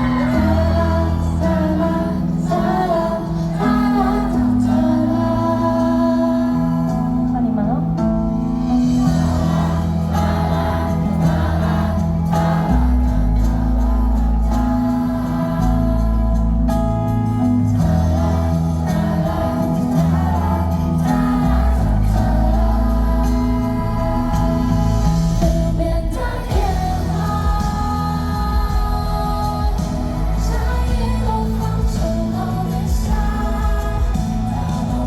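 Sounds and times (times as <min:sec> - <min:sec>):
crowd singing together: 0:00.0 - 0:07.4, 0:08.6 - 0:35.0
pop backing track: 0:00.0 - 0:35.0.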